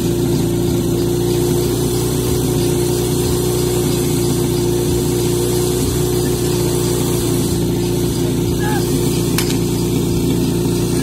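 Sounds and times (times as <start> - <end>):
pump engine running: 0.0 - 11.0.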